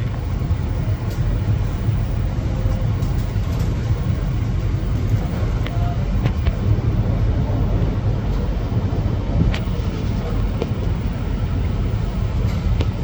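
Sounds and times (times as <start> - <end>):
distant jet engines rumbling: 0.0 - 13.0.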